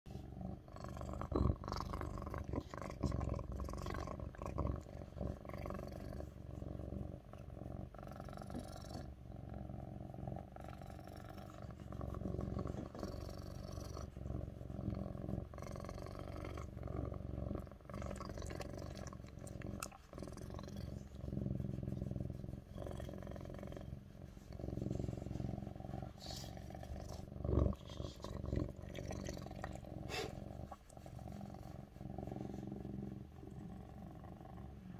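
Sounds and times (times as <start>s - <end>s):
cat purring loudly: 0.1s - 34.9s.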